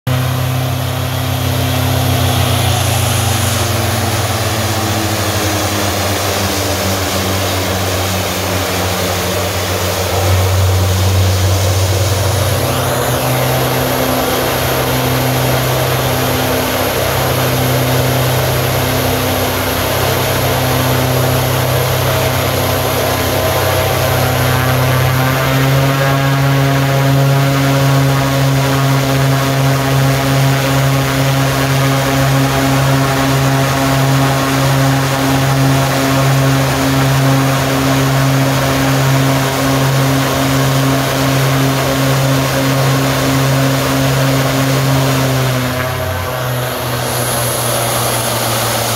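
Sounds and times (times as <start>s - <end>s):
low propeller hum: 0.0s - 48.9s
turboprop engine running: 0.0s - 48.9s
high engine whine: 0.1s - 48.9s.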